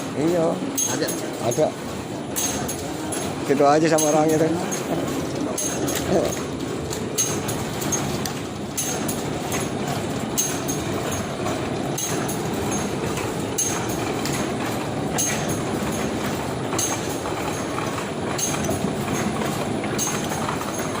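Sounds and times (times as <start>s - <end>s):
printing press clattering: 0.0s - 21.0s.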